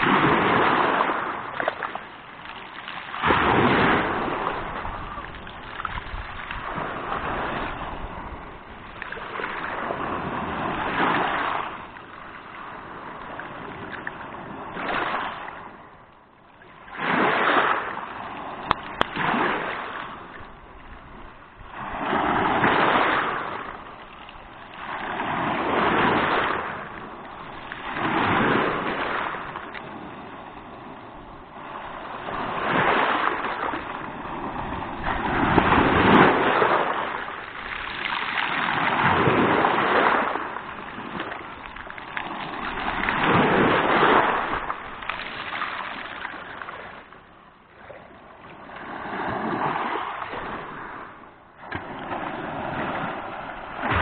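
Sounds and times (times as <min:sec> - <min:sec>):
waves breaking on pebble beach: 0:00.0 - 0:15.8, 0:16.8 - 0:47.2, 0:47.8 - 0:54.0.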